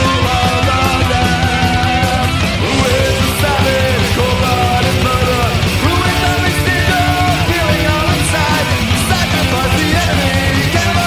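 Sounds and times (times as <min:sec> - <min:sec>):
heavy metal song: 0:00.0 - 0:11.0.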